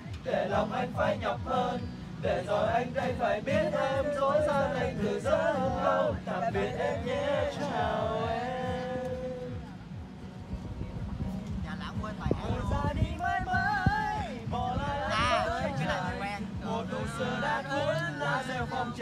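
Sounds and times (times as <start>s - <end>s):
men singing together: 0.0s - 9.6s, 12.4s - 19.0s
strummed acoustic guitar: 0.0s - 19.0s.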